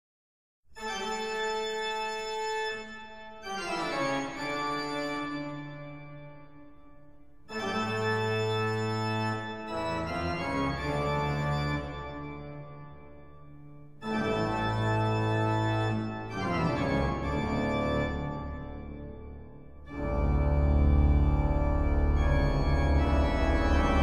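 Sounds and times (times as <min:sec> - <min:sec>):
organ chords: 0:00.8 - 0:06.6, 0:07.5 - 0:13.4, 0:14.0 - 0:24.0.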